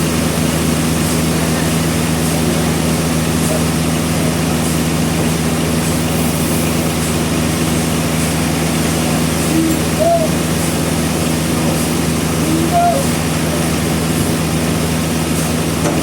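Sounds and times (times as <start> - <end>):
sawmill engine droning: 0.0 - 16.0.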